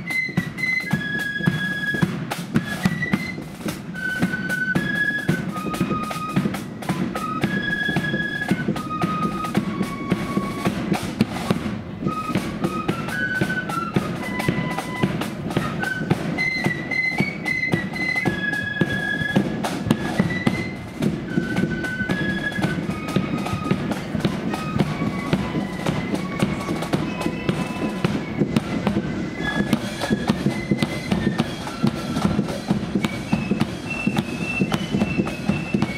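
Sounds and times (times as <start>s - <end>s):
fast snare drumming: 0.0s - 35.9s
flutes playing a march melody: 0.0s - 35.9s.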